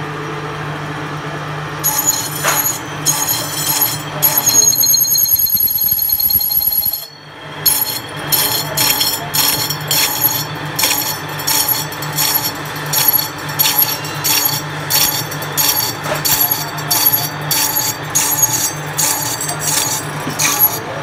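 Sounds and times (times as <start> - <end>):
lathe tool scraping metal: 1.8 - 5.0, 6.9 - 21.0.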